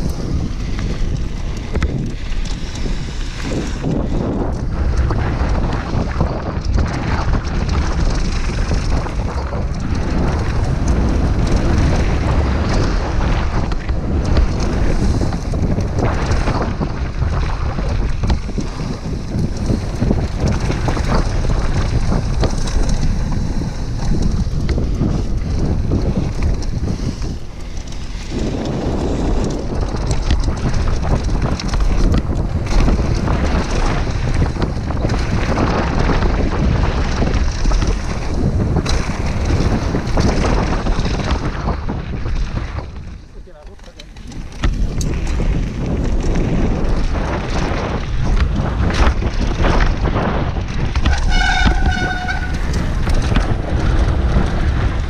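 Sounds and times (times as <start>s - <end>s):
bike clattering over bumps: 0.0s - 55.0s
tyres rumbling over gravel: 0.0s - 55.0s
wind buffeting microphone: 0.0s - 55.0s.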